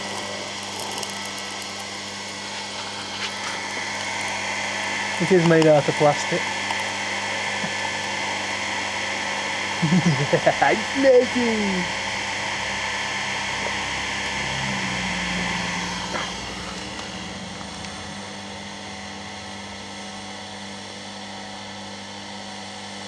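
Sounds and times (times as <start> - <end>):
pump motor humming with whine: 0.0 - 23.0.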